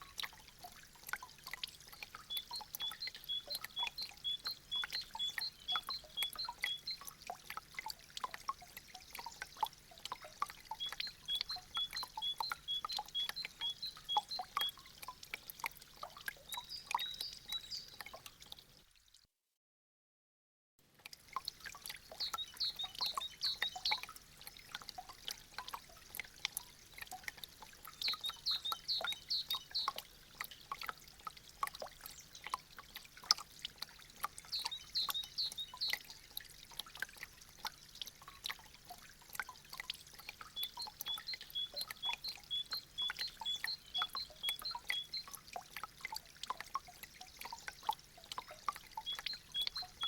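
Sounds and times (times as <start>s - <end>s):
meltwater dripping and trickling: 0.0s - 19.2s, 20.8s - 50.0s.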